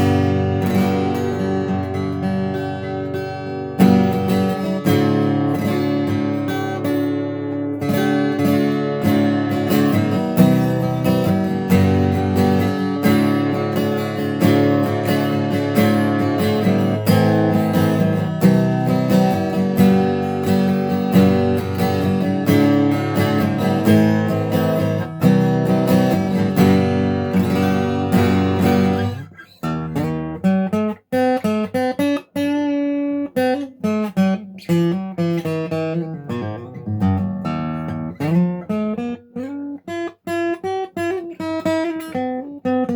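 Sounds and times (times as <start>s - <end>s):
acoustic guitar strummed: 0.0s - 42.9s.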